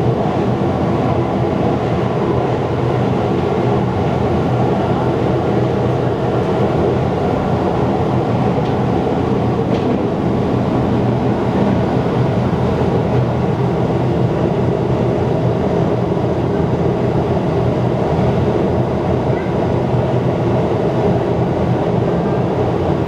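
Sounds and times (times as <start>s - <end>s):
train wheels rumbling: 0.0s - 23.0s.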